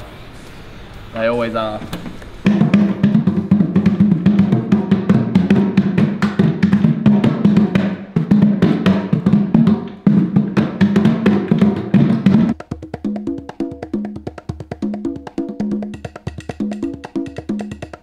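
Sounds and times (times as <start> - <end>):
fast bongo drumming: 2.4 - 18.0.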